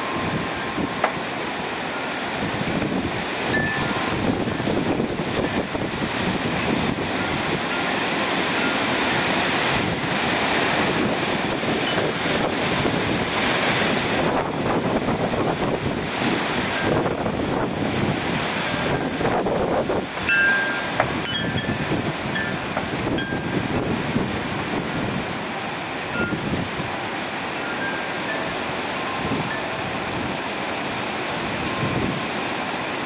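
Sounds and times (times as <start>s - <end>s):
wind buffeting microphone: 0.0s - 32.6s
strong wind gusting: 0.0s - 33.0s.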